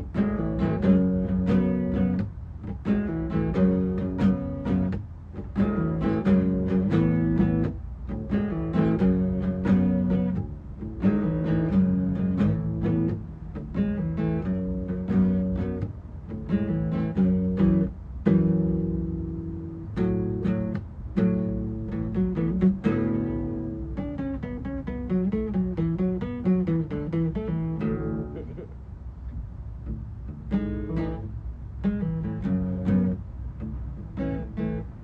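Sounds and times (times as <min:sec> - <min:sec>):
acoustic guitar: 0:00.0 - 0:35.0.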